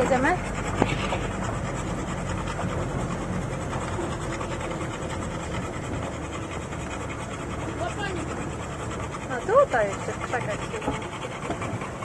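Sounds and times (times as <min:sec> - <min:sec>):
engine hum: 0:00.0 - 0:12.0
road rumble: 0:00.0 - 0:12.0.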